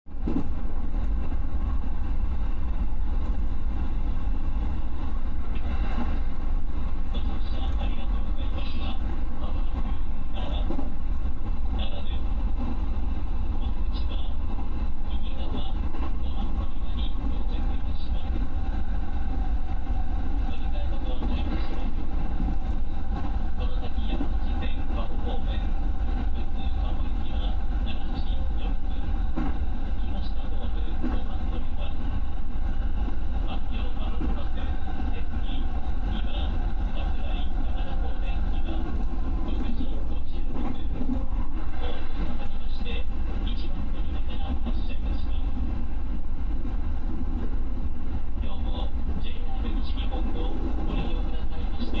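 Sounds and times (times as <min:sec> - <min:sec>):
train wheels rumbling on rail: 0:00.1 - 0:52.0.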